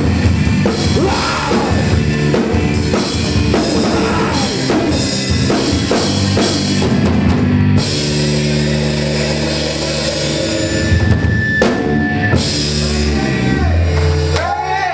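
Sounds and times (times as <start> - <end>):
drums and cymbals hitting: 0.0 - 14.9
live rock band: 0.0 - 14.9.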